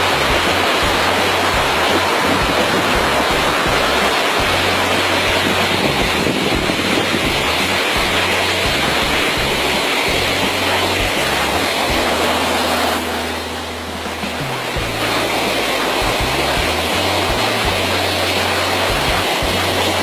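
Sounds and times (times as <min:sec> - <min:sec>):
background music with low notes: 0:00.0 - 0:20.0
waterfall rushing: 0:00.0 - 0:20.0.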